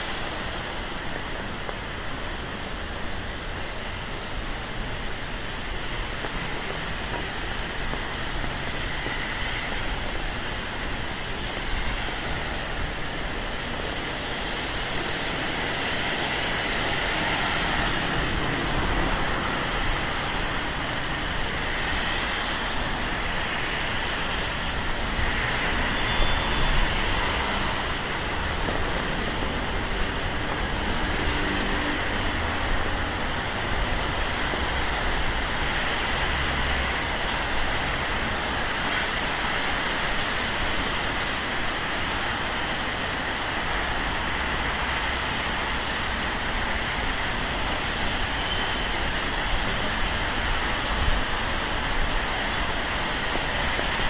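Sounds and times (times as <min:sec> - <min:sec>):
rain hiss: 0:00.0 - 0:54.0
tyres on wet asphalt: 0:00.0 - 0:54.0.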